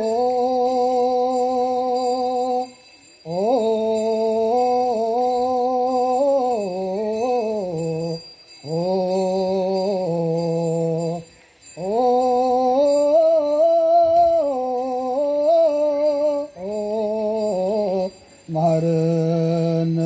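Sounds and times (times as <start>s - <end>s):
liturgical chant: 0.0s - 20.0s.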